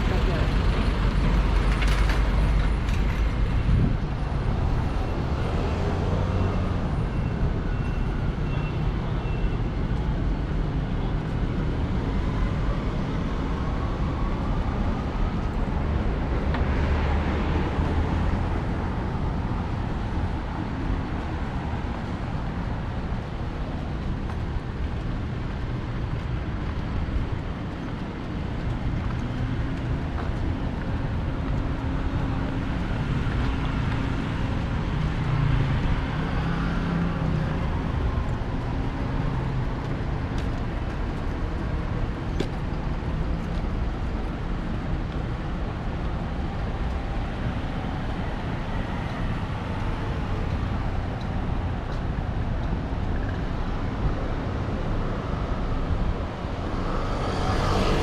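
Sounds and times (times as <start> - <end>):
cars passing: 0.0 - 58.0
road noise: 0.0 - 58.0.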